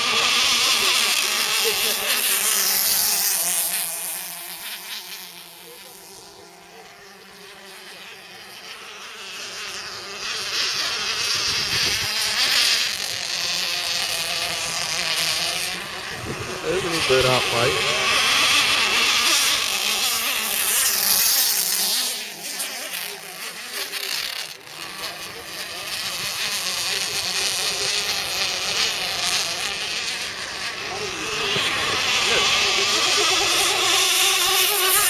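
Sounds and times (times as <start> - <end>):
rc boat engines buzzing whine: 0.0 - 35.0.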